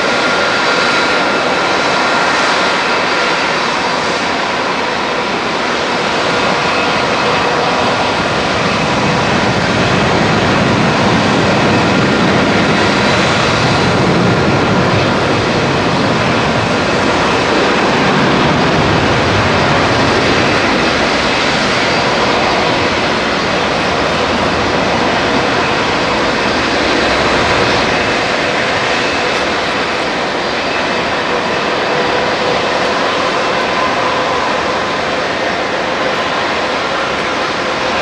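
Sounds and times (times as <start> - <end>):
jet engines at low power: 0.0 - 38.0.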